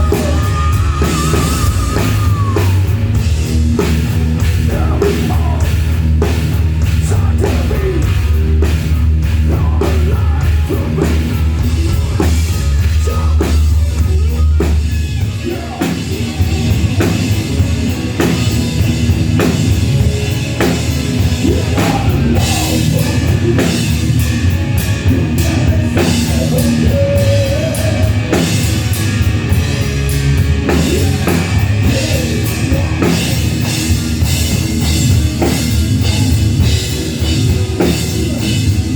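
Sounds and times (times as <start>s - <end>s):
drum kit: 0.0s - 38.9s
rock band playing: 0.0s - 38.9s.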